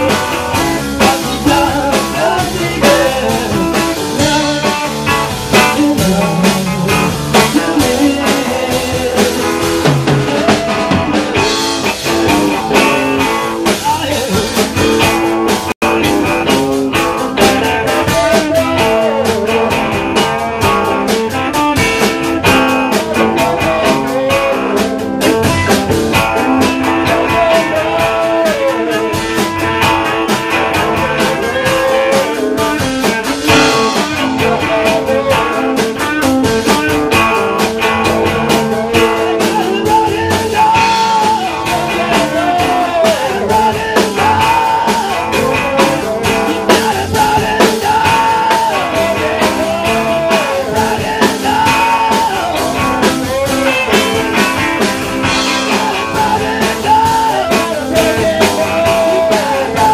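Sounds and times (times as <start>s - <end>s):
rock band playing live: 0.0s - 59.9s
wavering melodic lead guitar: 0.0s - 59.9s.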